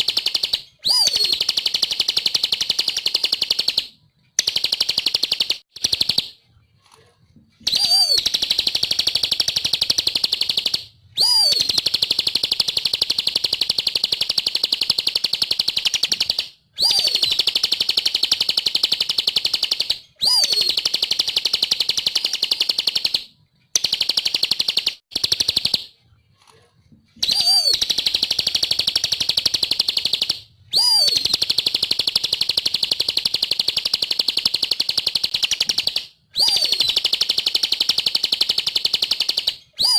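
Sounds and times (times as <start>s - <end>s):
bird singing rapid high chatter: 0.0s - 6.3s, 7.6s - 25.8s, 27.2s - 39.9s.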